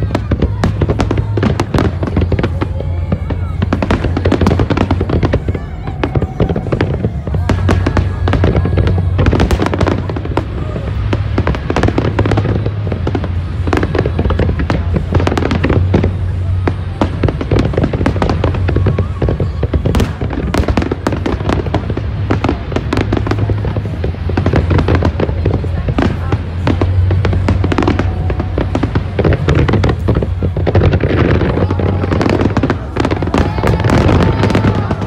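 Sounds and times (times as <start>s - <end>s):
fireworks bangs and crackles: 0.0s - 35.0s
low rumble: 0.0s - 35.0s.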